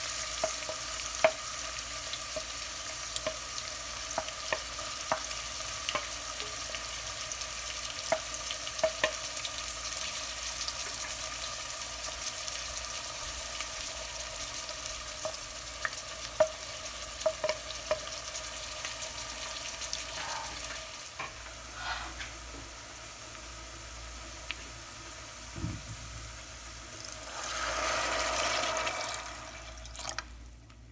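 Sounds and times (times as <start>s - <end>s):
food sizzling in oil: 0.0s - 30.9s.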